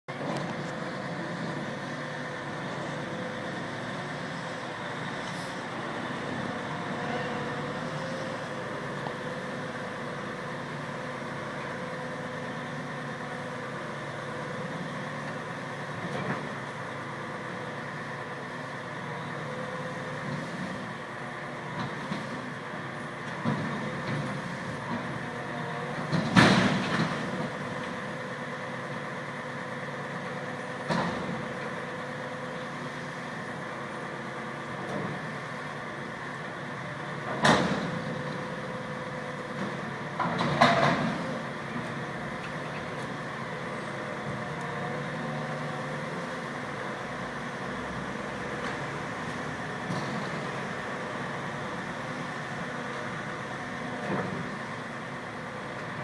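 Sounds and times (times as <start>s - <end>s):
garbage truck running: 0.1s - 56.0s.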